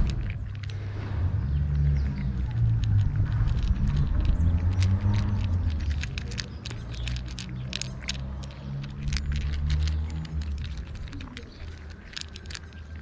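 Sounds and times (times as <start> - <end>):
cats crunching dry kibble: 0.0 - 13.0
low engine hum: 0.0 - 13.0.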